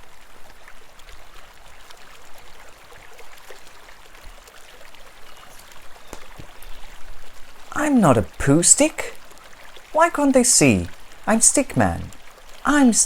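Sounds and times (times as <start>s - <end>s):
river water flowing: 0.0s - 13.0s
water trickles and drips: 0.0s - 13.0s.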